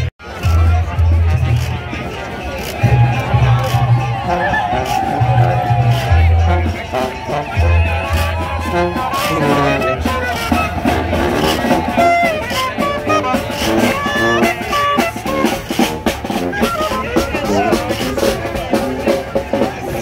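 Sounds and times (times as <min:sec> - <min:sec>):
guitar over drum beat: 0:02.6 - 0:20.0.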